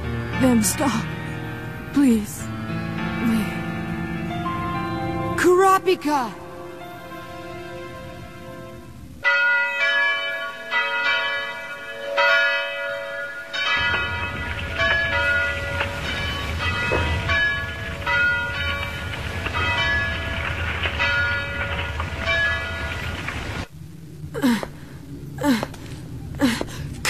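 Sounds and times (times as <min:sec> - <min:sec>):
bells ringing in a peal: 0:00.0 - 0:23.2.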